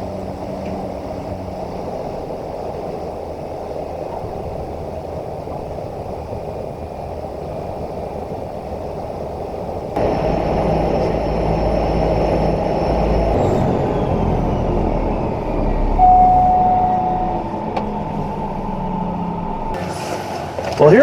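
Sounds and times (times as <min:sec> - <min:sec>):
turboprop engine rumble: 0:00.0 - 0:21.0.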